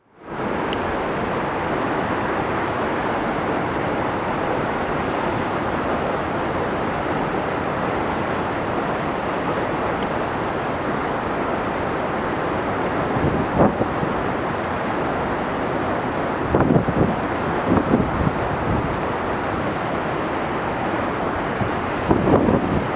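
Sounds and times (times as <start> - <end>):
waterfall rushing: 0.3 - 22.9.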